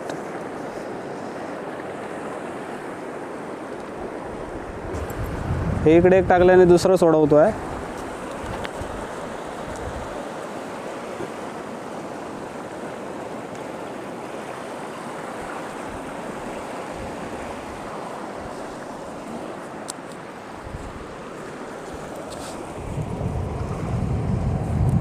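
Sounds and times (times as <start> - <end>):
sea surf washing on beach: 0.0 - 25.0.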